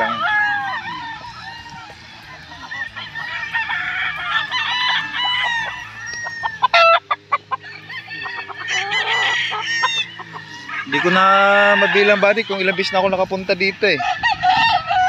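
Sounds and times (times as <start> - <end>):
roosters crowing and clucking: 0.0 - 15.0.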